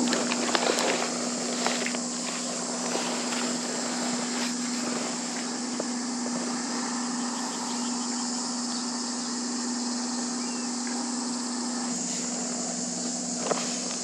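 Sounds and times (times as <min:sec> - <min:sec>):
high hiss: 0:00.0 - 0:14.0
low hum: 0:00.0 - 0:14.0.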